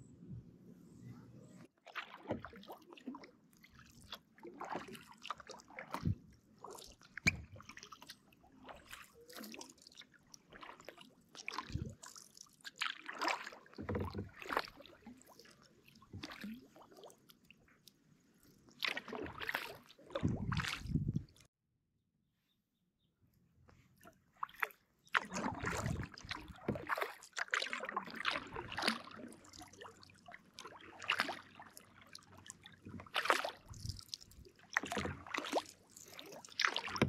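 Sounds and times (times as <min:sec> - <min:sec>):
paddle splashing in water: 0:01.7 - 0:17.5, 0:18.5 - 0:21.5, 0:23.8 - 0:37.0
water dripping and sloshing: 0:01.7 - 0:21.5, 0:23.7 - 0:37.0.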